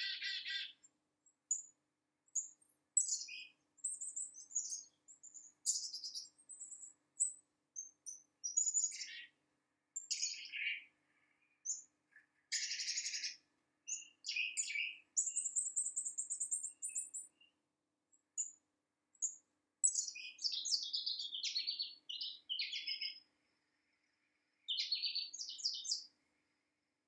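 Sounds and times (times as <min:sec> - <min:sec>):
small birds singing: 0:00.0 - 0:26.9.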